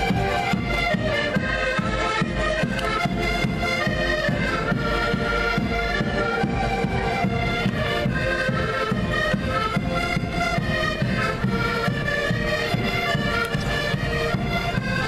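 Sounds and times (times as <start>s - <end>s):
accordions playing folk tune: 0.0s - 15.0s.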